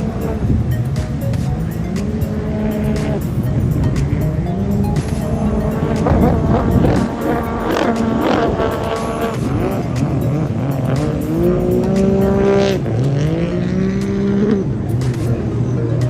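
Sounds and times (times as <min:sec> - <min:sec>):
powerboat engines whining: 0:00.0 - 0:16.0.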